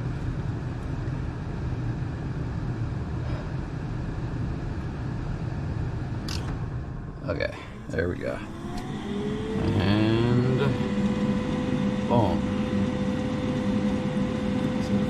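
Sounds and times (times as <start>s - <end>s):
furnace humming: 0.0s - 15.0s.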